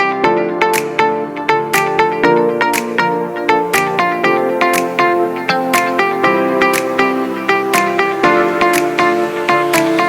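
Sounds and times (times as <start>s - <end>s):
plucked guitar over a steady beat: 0.0s - 10.0s.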